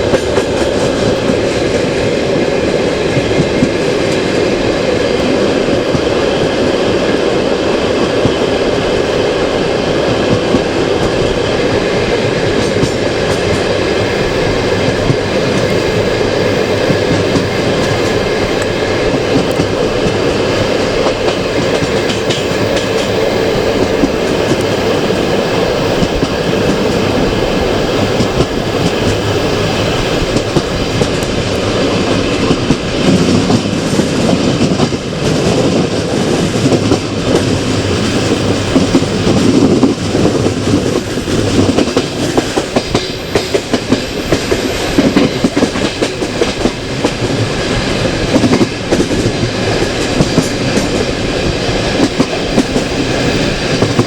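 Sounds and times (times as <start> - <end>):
clickety-clack of rail joints: 0.0 - 54.0
train wheels rumbling on rail: 0.0 - 54.0.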